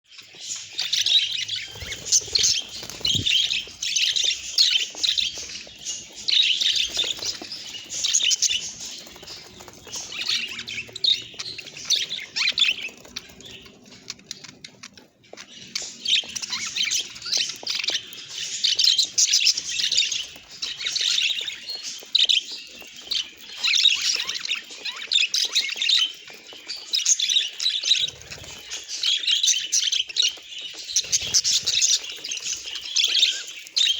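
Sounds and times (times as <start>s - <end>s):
budgerigars chirping and squawking: 0.1s - 33.9s.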